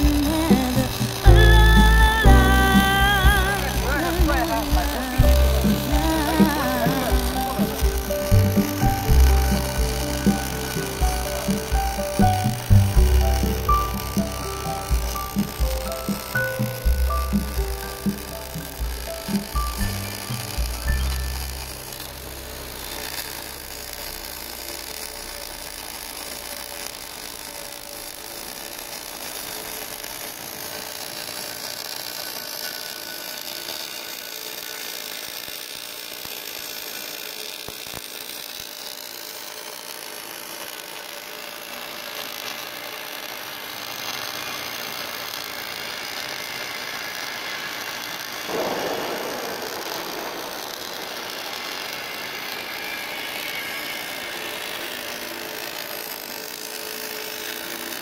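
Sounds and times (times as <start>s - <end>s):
welding arc frying hiss: 0.0s - 58.0s.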